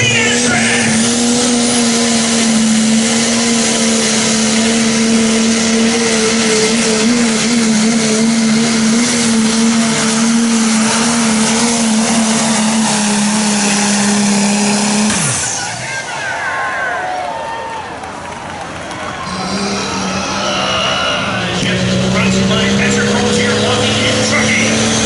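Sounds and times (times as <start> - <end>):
diesel truck engine at high revs: 0.0 - 16.6, 18.0 - 25.0.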